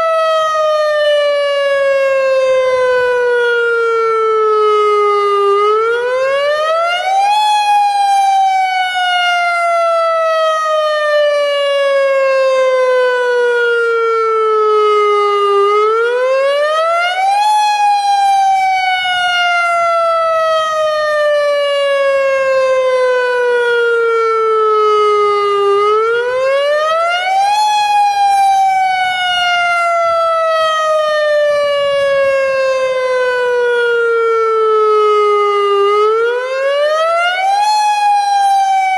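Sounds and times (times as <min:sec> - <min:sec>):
tsunami warning siren wailing: 0:00.0 - 0:38.9.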